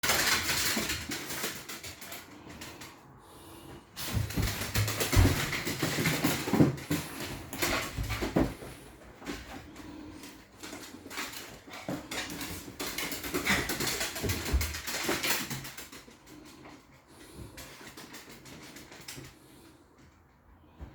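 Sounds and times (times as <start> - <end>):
dog claws clicking and tapping: 0.0 - 3.0, 4.0 - 19.6.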